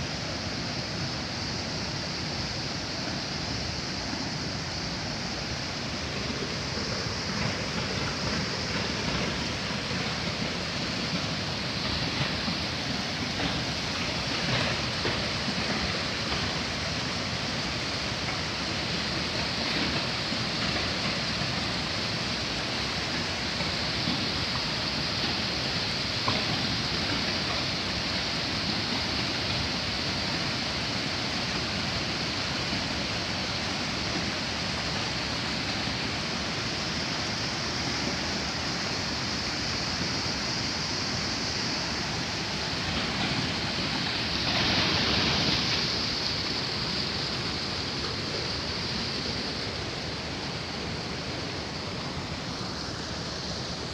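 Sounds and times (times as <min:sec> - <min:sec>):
waterfall rushing water: 0:00.0 - 0:53.9.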